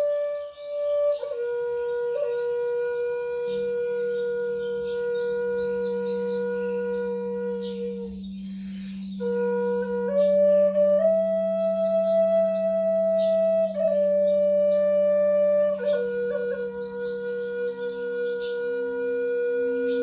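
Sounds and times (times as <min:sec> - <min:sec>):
birdsong chirps: 0:00.0 - 0:20.0
flute sustained notes: 0:00.0 - 0:20.0.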